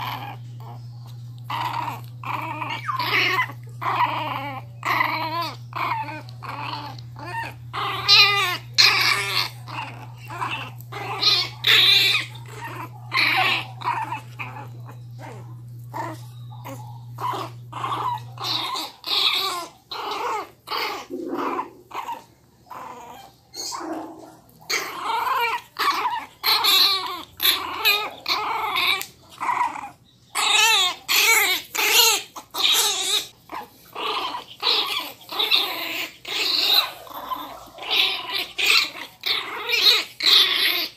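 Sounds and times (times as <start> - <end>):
puppy growling and yapping: 0.0 - 40.9.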